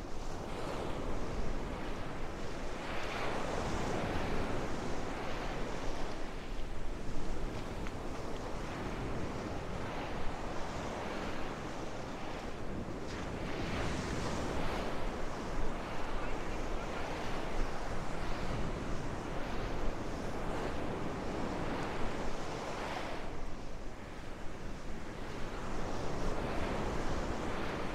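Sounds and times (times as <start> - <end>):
wind buffeting microphone: 0.0 - 27.9
surf breaking on beach: 0.4 - 27.9.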